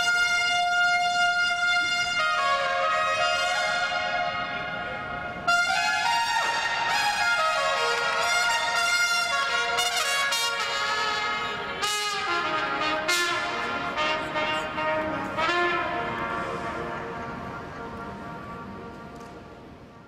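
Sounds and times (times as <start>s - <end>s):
solo trumpet melody: 0.0s - 19.2s.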